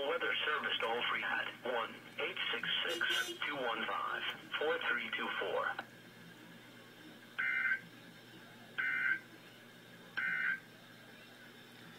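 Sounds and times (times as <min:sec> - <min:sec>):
faint low hum: 0:00.0 - 0:11.9.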